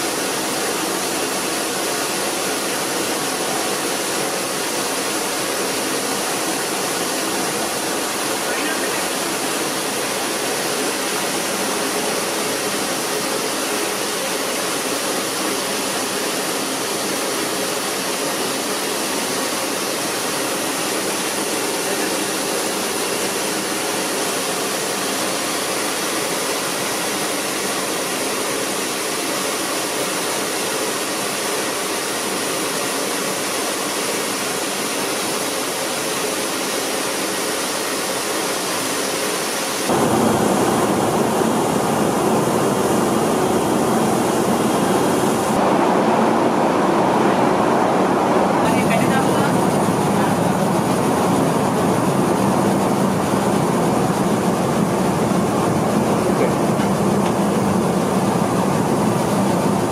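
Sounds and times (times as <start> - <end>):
rice streaming through chutes: 0.0 - 59.9.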